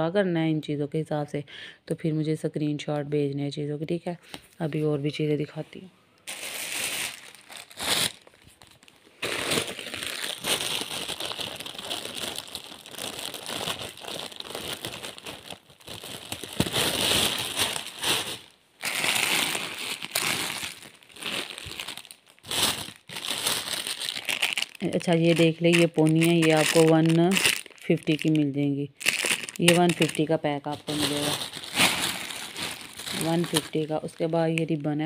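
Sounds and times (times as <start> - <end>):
plastic packets crinkling: 6.2 - 35.0.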